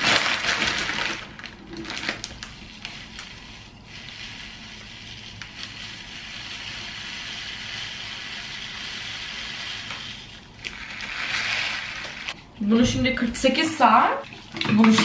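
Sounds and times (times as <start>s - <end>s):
plastic packet rustling: 0.0s - 12.5s
rice trickling into plastic bottle: 0.0s - 12.5s.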